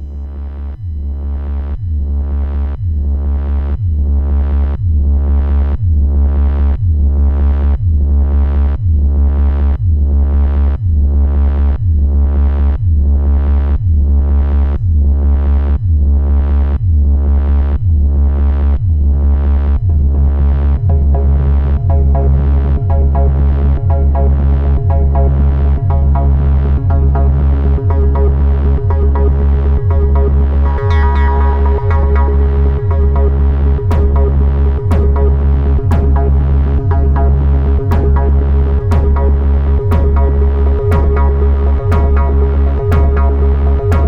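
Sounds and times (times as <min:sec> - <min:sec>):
synthesizer bass pulse: 0:00.0 - 0:44.0.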